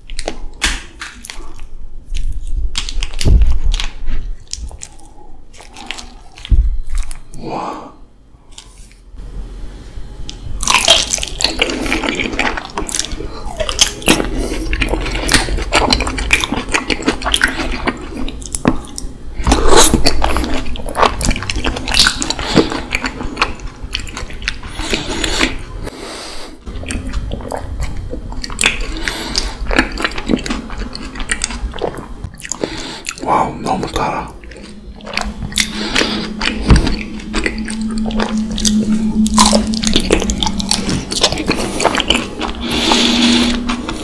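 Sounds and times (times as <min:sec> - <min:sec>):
wet chewing of honeycomb: 0:01.2 - 0:07.3, 0:10.6 - 0:25.6, 0:26.6 - 0:44.0.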